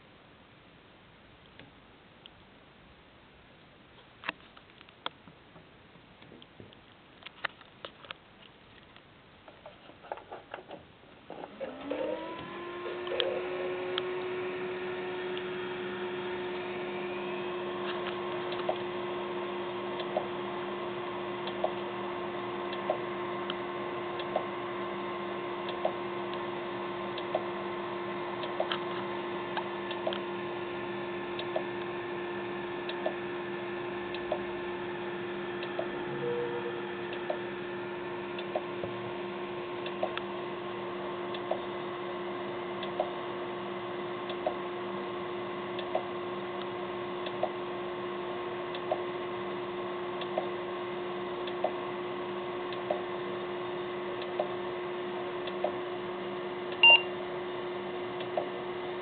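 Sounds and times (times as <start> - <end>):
hard drive spinning: 11.3 - 59.0.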